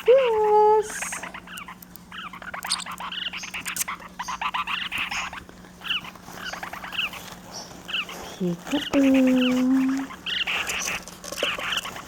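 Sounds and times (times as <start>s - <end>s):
small parrots chirping: 0.0s - 12.0s.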